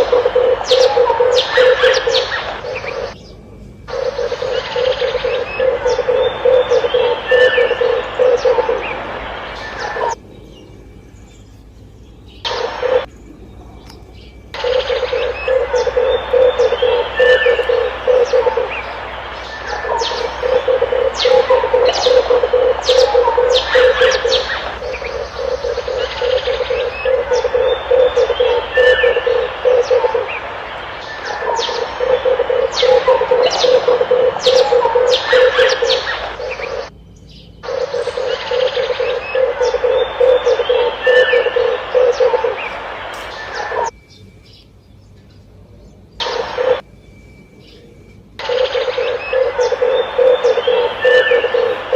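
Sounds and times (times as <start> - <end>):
doves cooing: 0.0 - 10.4, 12.5 - 36.9, 37.6 - 43.9, 46.2 - 46.8, 48.4 - 51.9
small birds chirping: 0.0 - 51.9.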